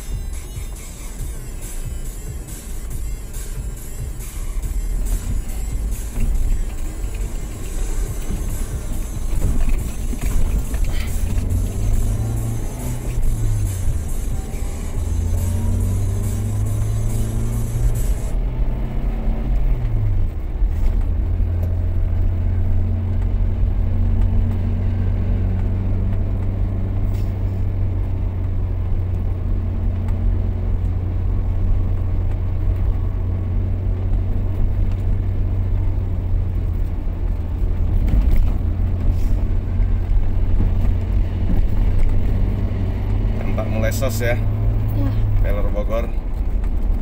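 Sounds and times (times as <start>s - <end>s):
vehicle engine and tyre rumble: 0.0s - 47.0s.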